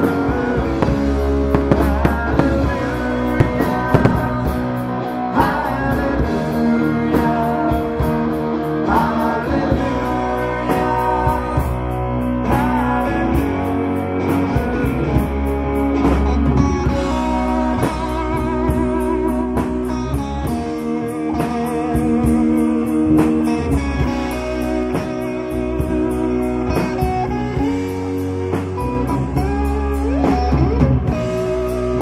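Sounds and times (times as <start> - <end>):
drums and bass: 0.0 - 32.0
electric guitars: 0.0 - 32.0.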